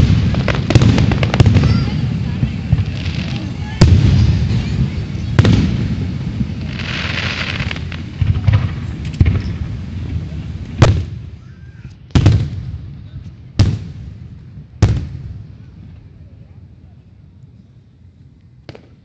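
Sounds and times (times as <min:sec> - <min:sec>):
fireworks booming with echo: 0:00.0 - 0:16.2, 0:18.6 - 0:19.0.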